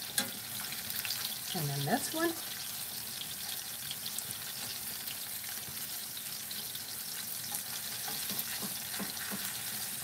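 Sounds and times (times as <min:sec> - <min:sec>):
steak sizzling in skillet: 0:00.0 - 0:10.0.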